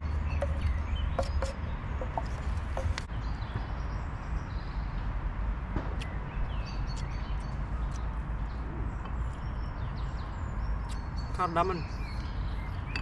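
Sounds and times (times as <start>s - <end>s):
birds chirping: 0.0s - 5.1s, 5.9s - 13.0s.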